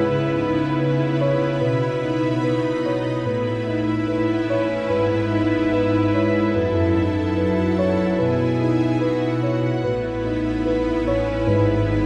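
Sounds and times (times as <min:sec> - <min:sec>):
calm slow piano music: 0:00.0 - 0:12.0.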